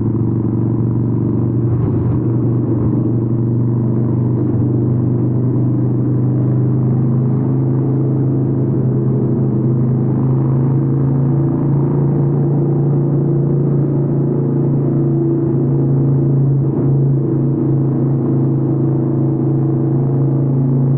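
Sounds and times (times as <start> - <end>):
motorcycle exhaust at cruise: 0.0 - 20.9.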